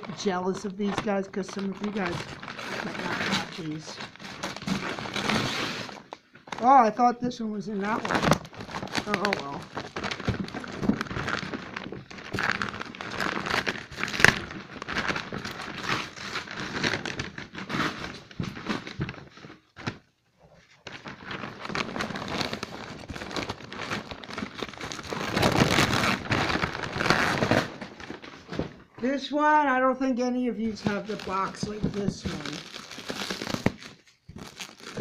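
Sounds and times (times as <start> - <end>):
bubble wrap crinkling: 0.0 - 29.0, 30.6 - 35.0.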